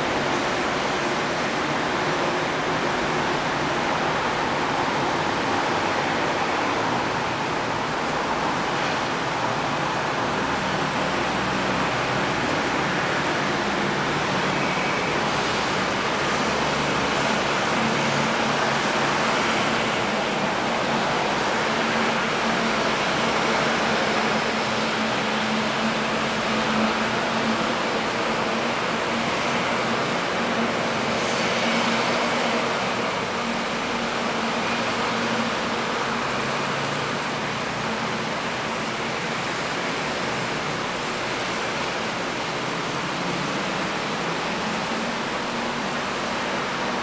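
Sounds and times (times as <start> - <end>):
steady rain hiss: 0.0 - 47.0
street traffic: 0.0 - 47.0.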